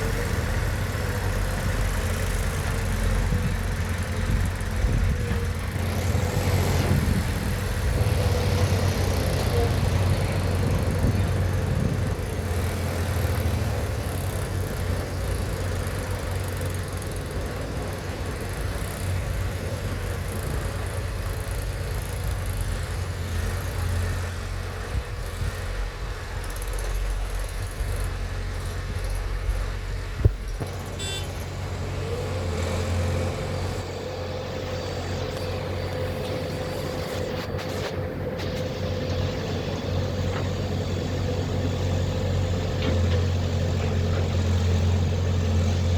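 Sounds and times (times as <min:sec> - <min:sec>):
diesel engine humming: 0:00.0 - 0:45.9.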